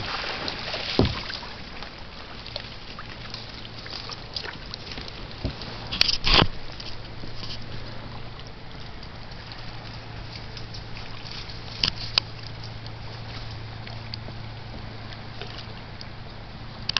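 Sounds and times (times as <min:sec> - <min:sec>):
water lapping around kayak: 0:00.0 - 0:16.9.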